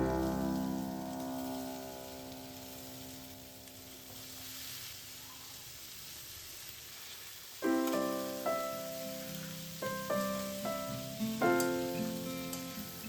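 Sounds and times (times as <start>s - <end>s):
soft piano music: 0.0s - 5.4s, 7.6s - 13.0s
food sizzling in a frying pan: 0.0s - 13.0s.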